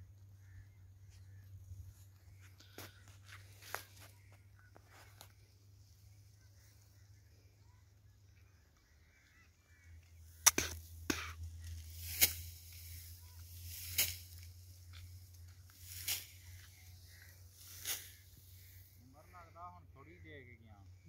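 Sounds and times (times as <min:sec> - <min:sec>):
dry crop stalks crackling: 0:00.4 - 0:19.6.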